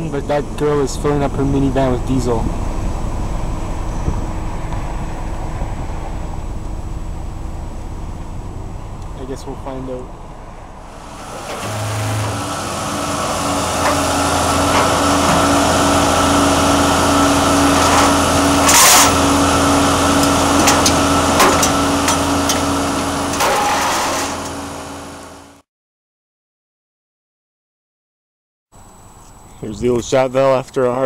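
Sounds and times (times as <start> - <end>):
car engine running: 0.0 - 25.6
road noise: 0.0 - 25.6, 28.7 - 31.0.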